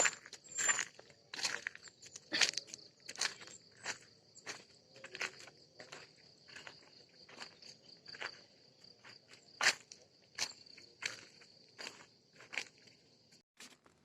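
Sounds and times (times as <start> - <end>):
footsteps walking: 0.0 - 12.9.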